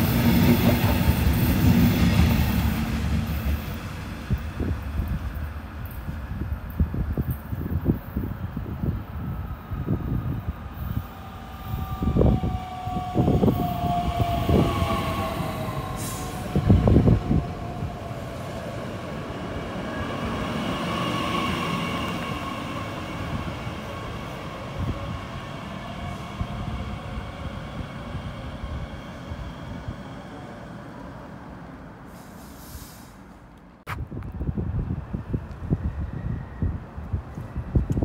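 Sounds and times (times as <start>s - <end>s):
train wheels rumbling: 0.0s - 30.4s
electric train whine: 0.0s - 31.7s, 35.0s - 38.0s.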